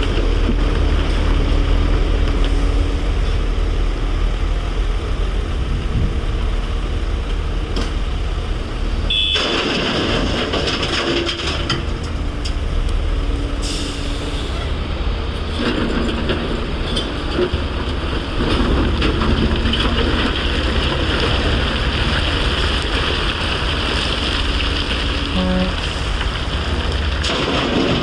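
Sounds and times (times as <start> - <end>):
heavy machinery rumbling: 0.0 - 28.0.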